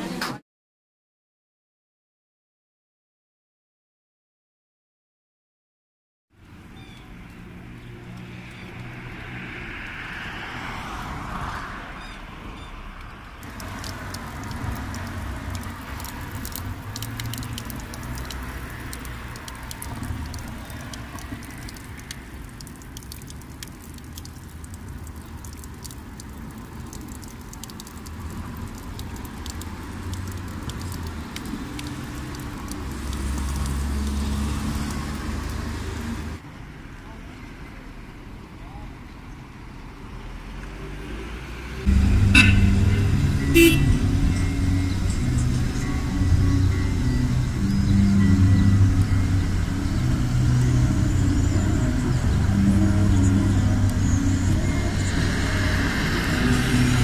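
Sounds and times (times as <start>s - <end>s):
vehicle engine hum: 6.4s - 57.0s.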